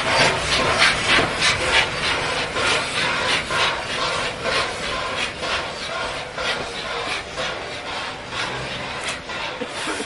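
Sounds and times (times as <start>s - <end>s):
steam locomotive chuffing: 0.0s - 10.0s.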